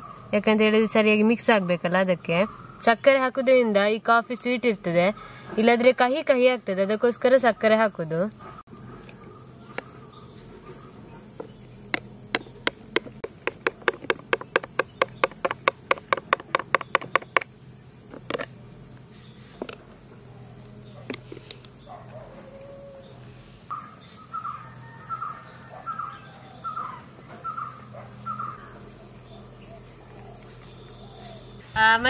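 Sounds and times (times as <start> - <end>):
high insect drone: 0.0 - 32.0.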